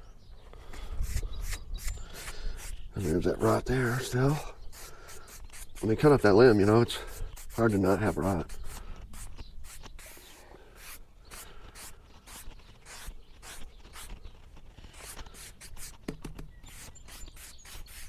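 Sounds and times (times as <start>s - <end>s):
rubbing scrapes on wood: 0.6s - 18.0s.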